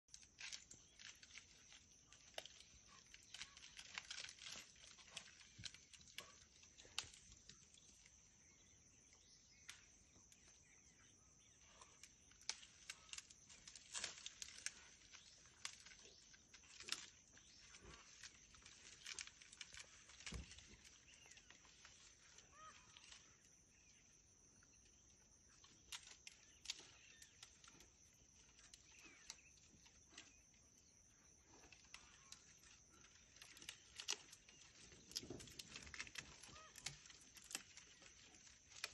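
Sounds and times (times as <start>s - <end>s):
twigs snapping and crackling: 0.1s - 10.8s, 11.6s - 23.8s, 25.6s - 30.4s, 31.5s - 38.9s.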